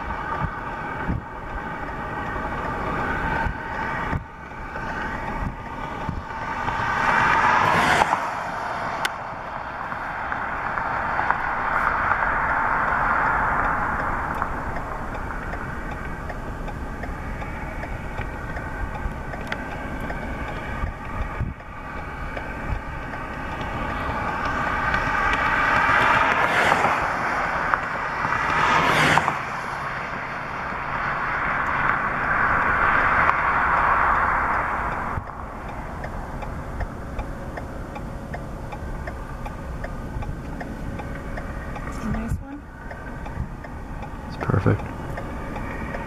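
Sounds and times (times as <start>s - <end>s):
engine hum rising in pitch: 0.0s - 46.0s
steady low rumble: 0.0s - 46.0s
tyre noise of passing vehicles: 0.0s - 46.0s.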